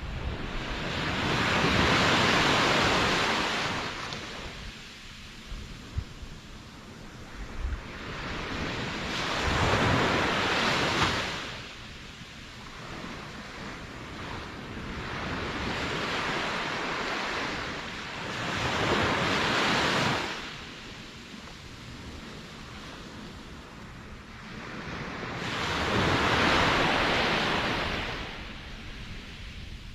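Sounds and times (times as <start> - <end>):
large waves breaking: 0.0 - 29.9
ocean waves washing up shore: 0.0 - 29.9.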